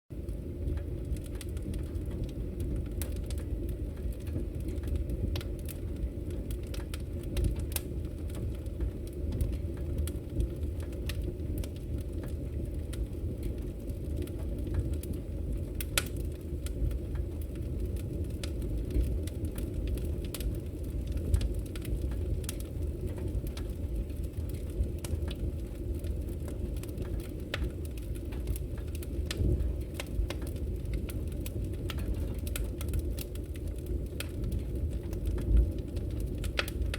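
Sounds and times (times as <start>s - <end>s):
wood fire crackling: 0.1s - 36.9s.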